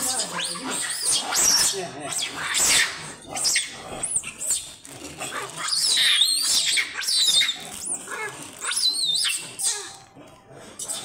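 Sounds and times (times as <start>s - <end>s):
monkeys screeching: 0.0s - 10.1s, 10.8s - 11.0s.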